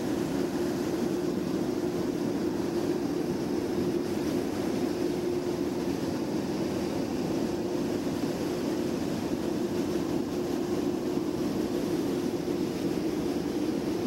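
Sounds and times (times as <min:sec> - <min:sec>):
freight train rumbling: 0:00.0 - 0:14.0.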